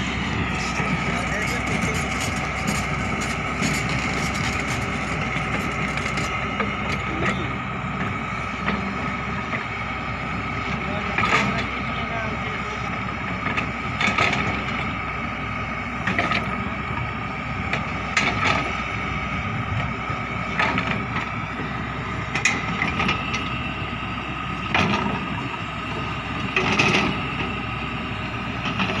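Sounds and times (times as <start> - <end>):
excavator engine whine: 0.0 - 29.0.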